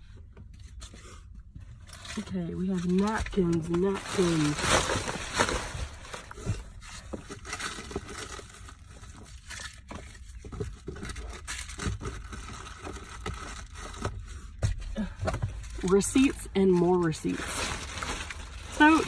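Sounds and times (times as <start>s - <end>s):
rummaging through paper and items: 0.0s - 19.0s.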